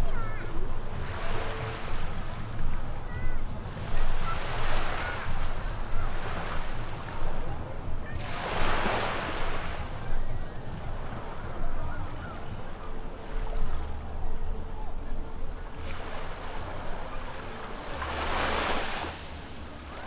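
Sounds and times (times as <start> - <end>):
small waves washing up a beach: 0.0 - 20.0.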